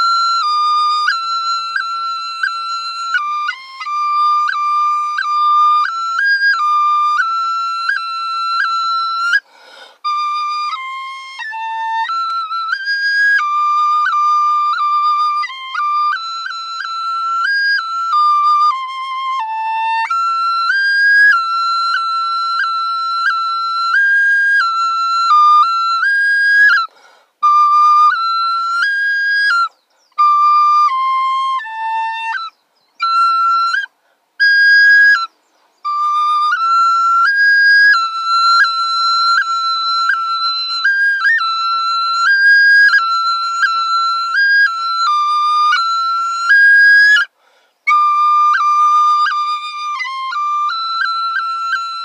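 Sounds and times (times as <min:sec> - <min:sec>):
high-pitched flute melody: 0:00.0 - 0:52.0.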